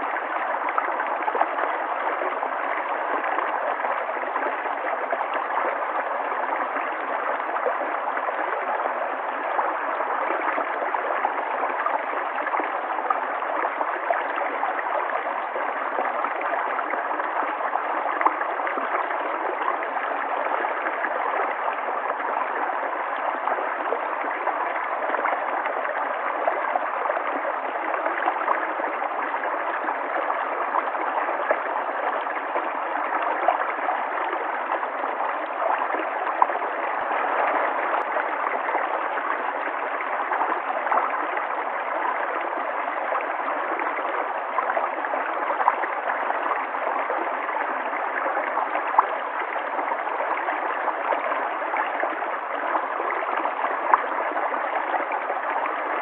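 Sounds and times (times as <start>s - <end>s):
river water flowing and gurgling: 0.0s - 56.0s.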